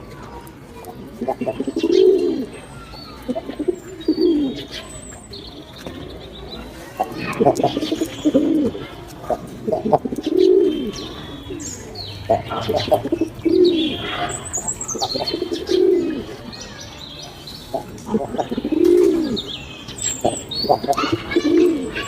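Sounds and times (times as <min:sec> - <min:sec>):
small birds chirping: 0:00.1 - 0:22.0
pigeons cooing: 0:00.8 - 0:04.9, 0:06.8 - 0:16.5, 0:17.6 - 0:22.0.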